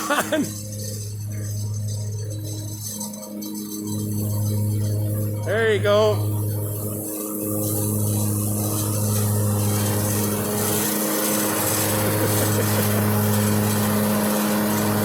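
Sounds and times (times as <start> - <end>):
lawn mower engine humming: 0.0 - 15.0.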